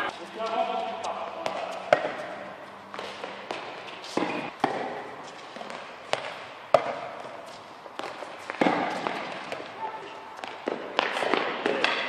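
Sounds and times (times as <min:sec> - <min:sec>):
tennis balls bouncing: 0:00.0 - 0:12.0
tennis balls hit by rackets: 0:00.0 - 0:12.0.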